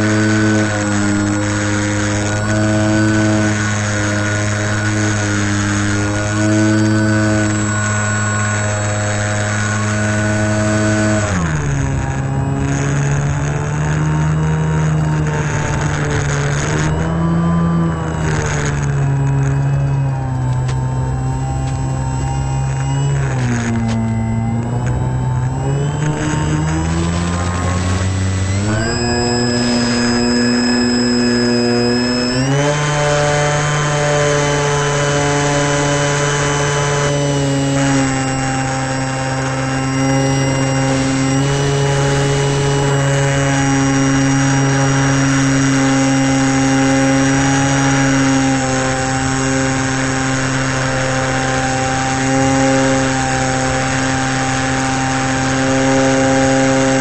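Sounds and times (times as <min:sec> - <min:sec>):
model airplane motor whine: 0:00.0 - 0:57.0.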